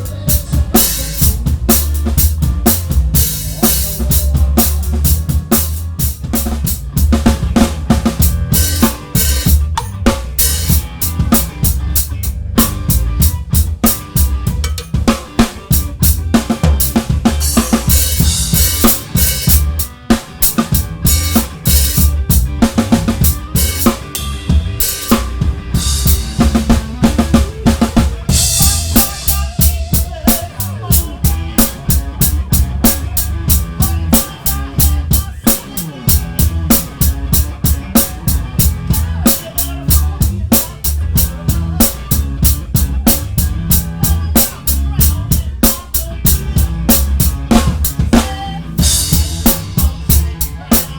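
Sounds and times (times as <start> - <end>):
drum kit groove: 0.0 - 50.9
live band playing: 0.0 - 50.9.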